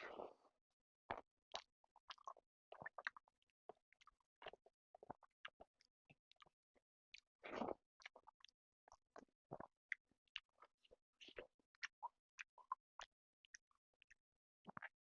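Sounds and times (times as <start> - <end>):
wet chewing clicks and smacks: 1.1 - 15.0.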